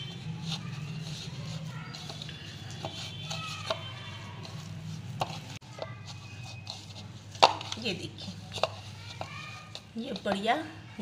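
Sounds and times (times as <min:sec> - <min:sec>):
hand kneading dough: 0:00.0 - 0:11.0.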